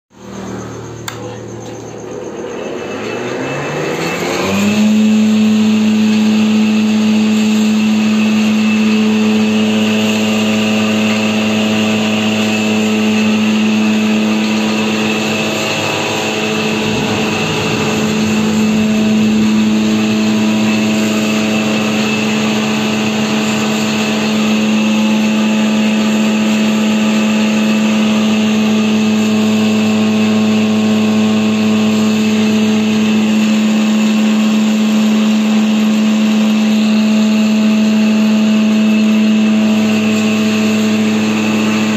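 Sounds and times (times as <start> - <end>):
electric wood planer running: 0.3 - 41.9.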